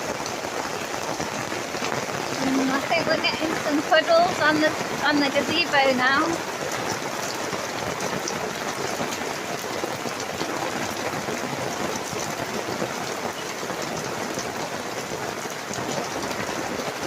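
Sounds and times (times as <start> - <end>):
heavy rain on gazebo canopy: 0.0 - 17.0.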